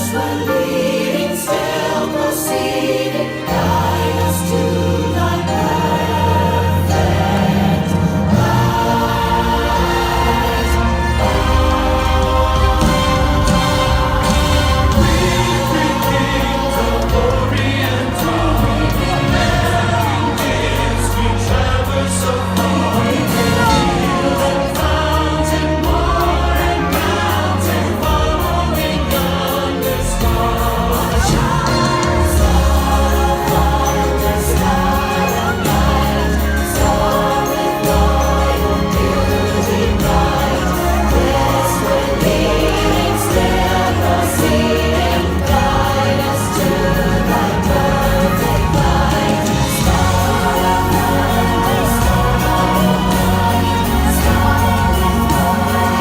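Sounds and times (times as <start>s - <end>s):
gospel choir with instruments: 0.0s - 56.0s
orchestral backing: 0.0s - 56.0s.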